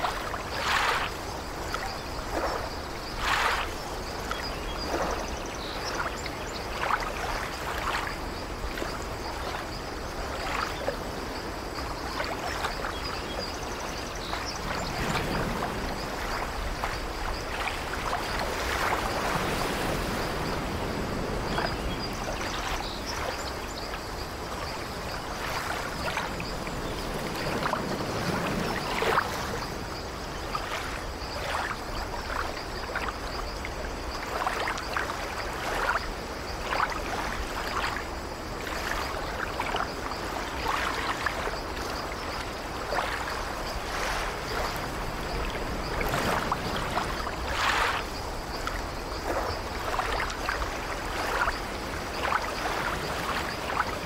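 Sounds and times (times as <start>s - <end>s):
water splashes: 0.0s - 54.0s
waves breaking: 0.0s - 54.0s.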